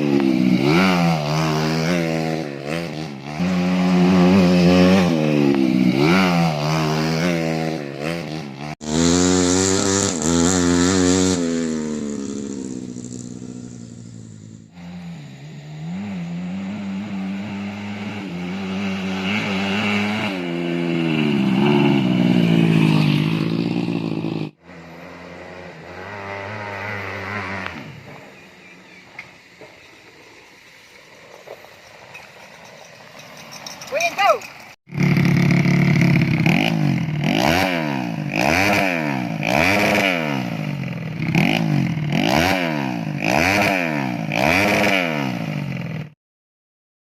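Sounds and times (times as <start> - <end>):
motorcycle engine revving: 0.0 - 29.9, 33.4 - 46.2.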